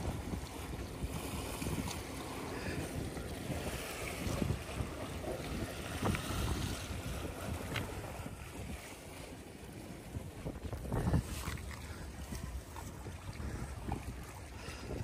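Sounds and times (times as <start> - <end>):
sea waves washing against rocks: 0.0 - 15.0
water splashes: 0.0 - 15.0
wind buffeting microphone: 0.0 - 15.0.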